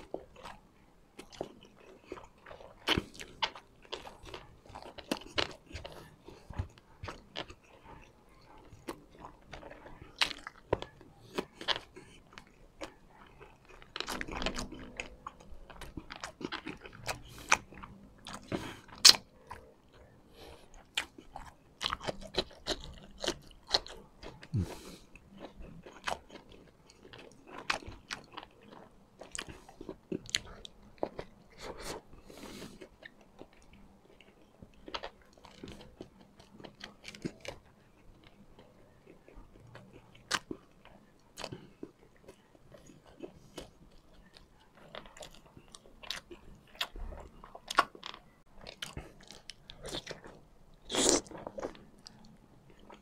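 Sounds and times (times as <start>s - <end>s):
close-miked chewing: 0.0s - 53.0s.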